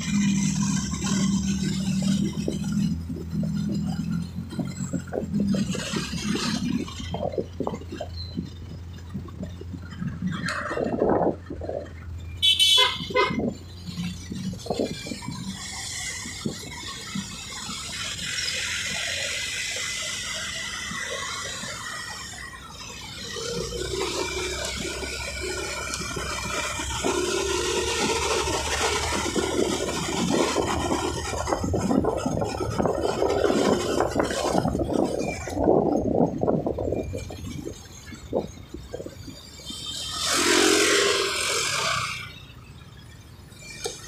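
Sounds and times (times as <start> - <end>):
wind buffeting microphone: 0.0 - 40.3
road noise: 0.0 - 44.0.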